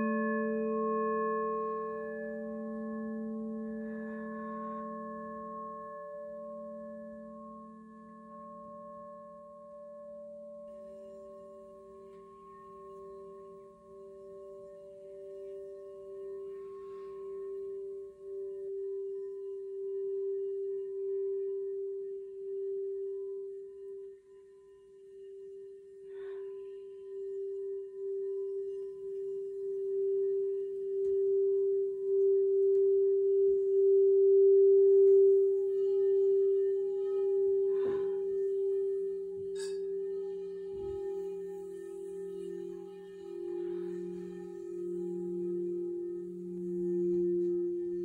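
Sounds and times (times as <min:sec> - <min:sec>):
higher singing bowl tone: 0:00.0 - 0:48.0
singing bowl low tone: 0:00.0 - 0:48.0.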